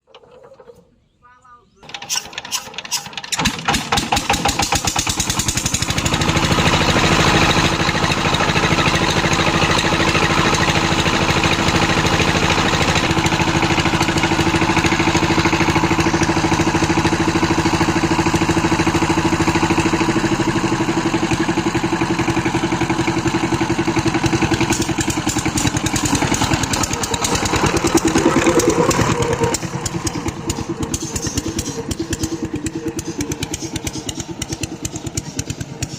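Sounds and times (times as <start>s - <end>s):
diesel tiller engine running: 1.8s - 35.9s.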